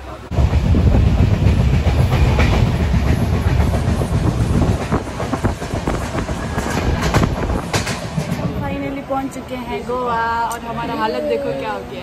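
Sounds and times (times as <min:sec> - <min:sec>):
train wheels rumbling: 0:00.0 - 0:09.9.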